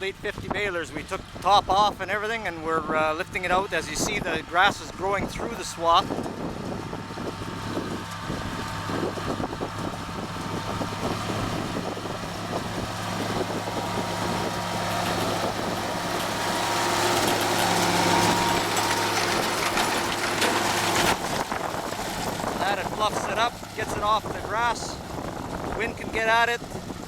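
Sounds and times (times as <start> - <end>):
tractor engine running: 0.0 - 27.0
rattle of farm machinery: 3.1 - 27.0.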